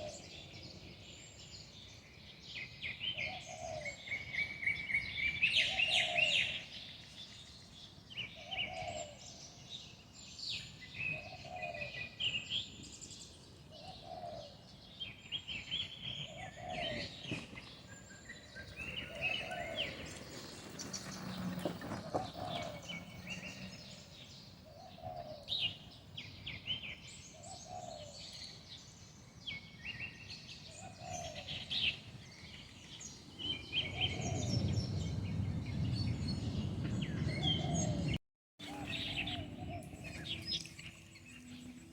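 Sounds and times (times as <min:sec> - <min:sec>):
birds chirping and trilling: 0:00.0 - 0:41.9.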